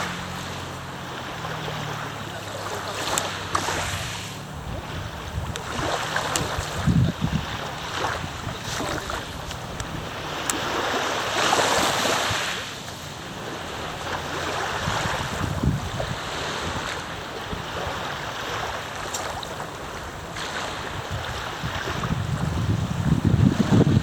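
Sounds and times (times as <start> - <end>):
lake waves washing: 0.0 - 24.0
wind buffeting microphone: 3.0 - 24.0.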